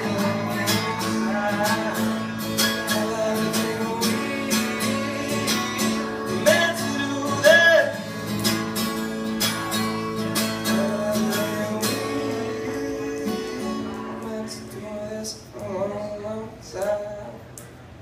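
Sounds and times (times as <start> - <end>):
man singing: 0.0 - 8.2, 9.4 - 17.5
acoustic guitar strumming: 0.0 - 16.3.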